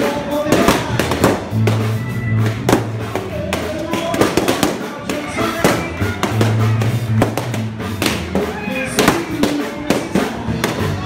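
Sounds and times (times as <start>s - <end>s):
balloons popping: 0.0s - 11.0s
crowd chatter: 0.0s - 11.0s.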